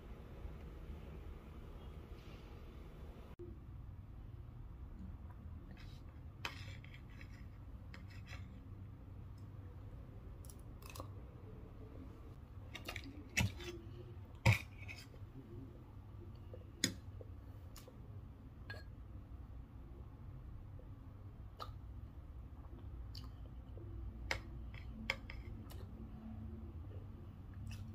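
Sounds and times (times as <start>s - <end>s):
faint low hum: 0.0s - 27.9s.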